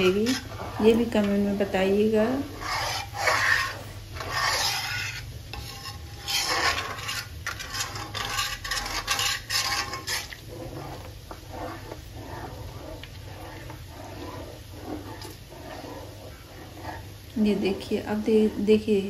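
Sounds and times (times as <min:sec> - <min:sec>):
cream bubbling and sizzling: 0:00.0 - 0:19.0
metal spatula scraping a pan: 0:00.0 - 0:19.0.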